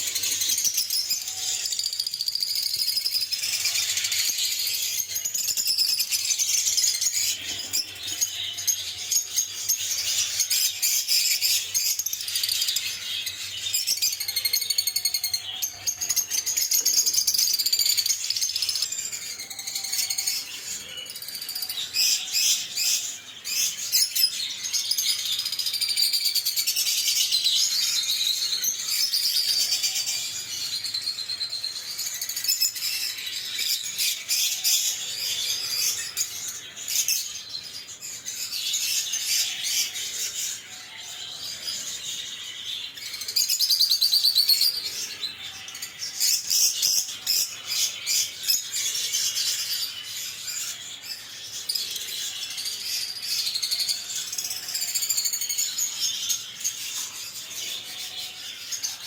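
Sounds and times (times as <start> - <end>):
lovebirds chirping and chattering: 0.0 - 59.0.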